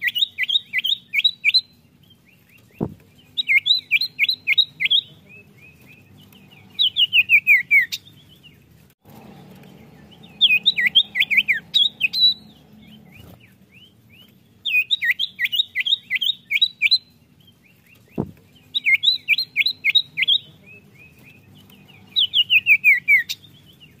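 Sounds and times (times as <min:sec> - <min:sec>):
bird singing descending notes: 0:00.0 - 0:24.0.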